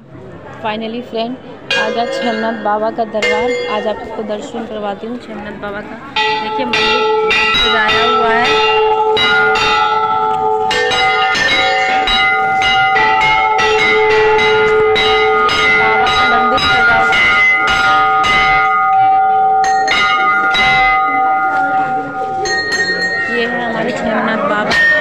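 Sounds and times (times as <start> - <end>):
temple bells pealing: 0.7 - 25.0.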